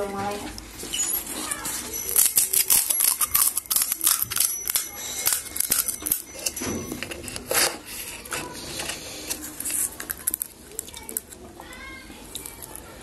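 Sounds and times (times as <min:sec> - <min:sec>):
crisp shells crunching when chewed: 0:01.4 - 0:13.0.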